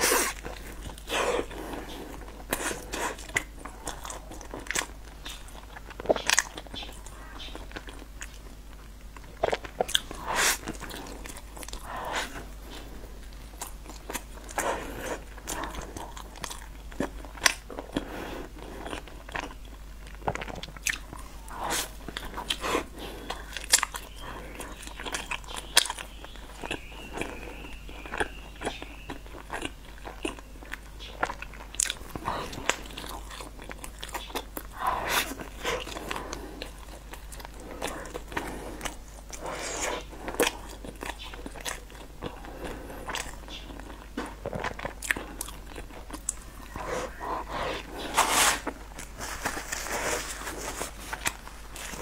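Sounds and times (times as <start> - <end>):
chewing crunchy pastry: 0.0 - 52.0.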